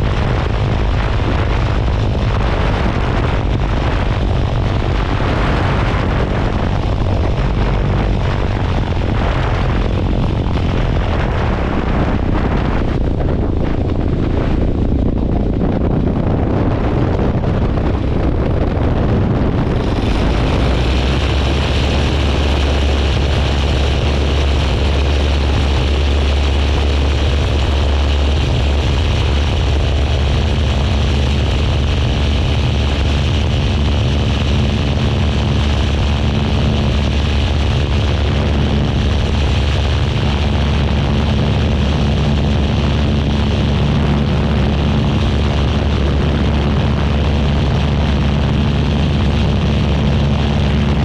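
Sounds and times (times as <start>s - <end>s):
aircraft engine and propeller drone: 0.0s - 51.0s
wind rushing: 0.0s - 51.0s.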